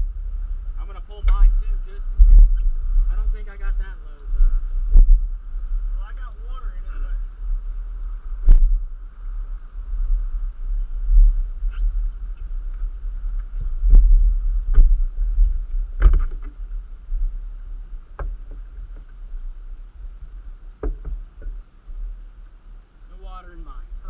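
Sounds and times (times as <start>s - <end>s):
wind buffeting microphone: 0.0s - 23.1s
steady engine hum: 0.0s - 24.0s.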